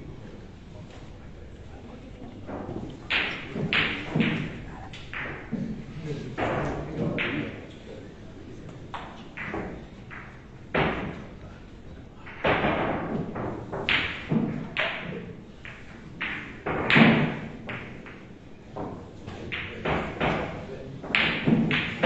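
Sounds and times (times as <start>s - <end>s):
billiard balls clacking and thudding: 2.4s - 7.9s, 8.7s - 11.4s, 12.0s - 22.0s.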